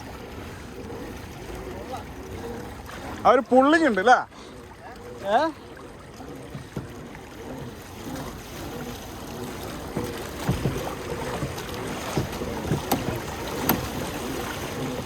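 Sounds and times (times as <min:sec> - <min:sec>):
water sloshing and lapping: 0:00.0 - 0:15.0.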